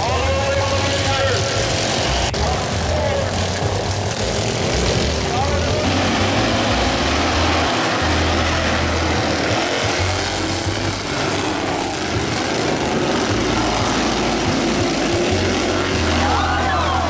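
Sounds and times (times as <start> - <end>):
lawn mower engines racing: 0.0 - 17.0.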